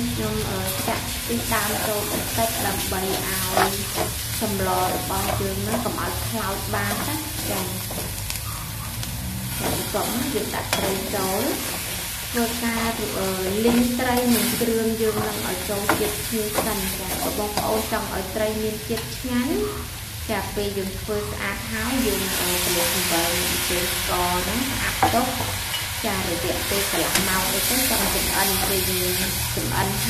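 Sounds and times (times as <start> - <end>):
ladle scraping sizzling wok: 0.0 - 18.1, 22.0 - 30.0.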